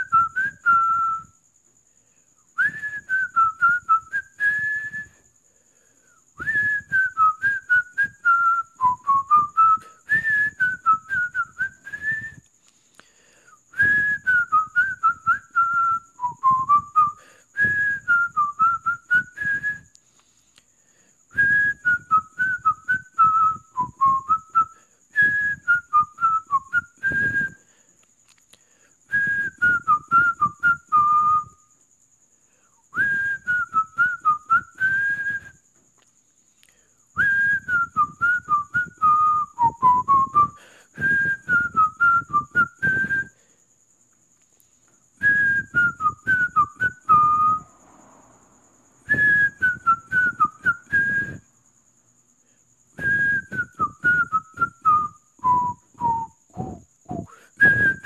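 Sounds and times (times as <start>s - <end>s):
person whistling a cheerful tune: 0.0s - 1.4s, 2.4s - 5.3s, 6.0s - 12.6s, 13.3s - 20.2s, 21.3s - 27.7s, 28.8s - 31.8s, 32.8s - 35.7s, 37.1s - 43.5s, 45.2s - 47.7s, 49.1s - 51.5s, 52.9s - 58.0s.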